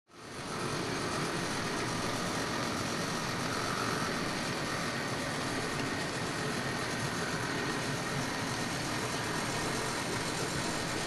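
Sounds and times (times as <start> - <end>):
high motor whine: 0.1 - 11.0
model train running on track: 0.2 - 11.0.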